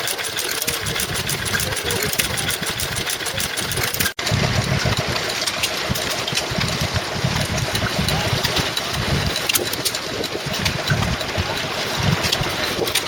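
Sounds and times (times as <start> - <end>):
stationary engines running: 0.0 - 13.0.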